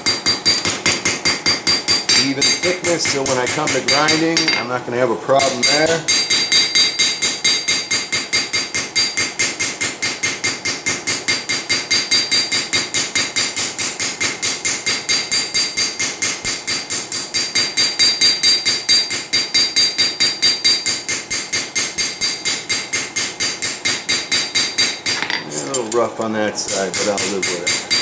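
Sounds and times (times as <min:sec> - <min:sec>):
hammer striking steel on anvil: 0:00.0 - 0:04.7, 0:05.4 - 0:26.0, 0:26.7 - 0:28.0.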